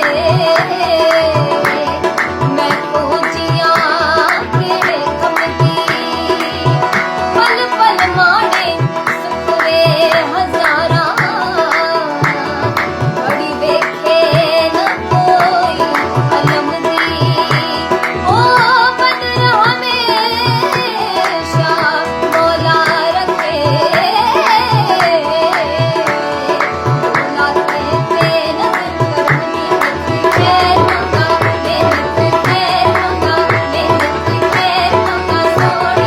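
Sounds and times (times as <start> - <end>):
tabla playing a beat: 0.0 - 36.0
woman singing: 0.0 - 36.0.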